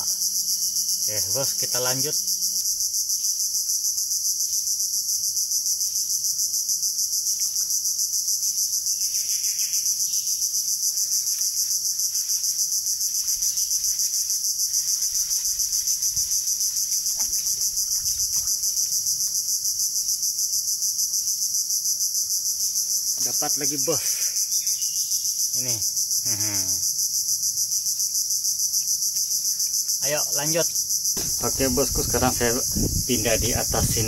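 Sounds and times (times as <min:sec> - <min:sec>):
insects buzzing shrilly: 0:00.0 - 0:34.0.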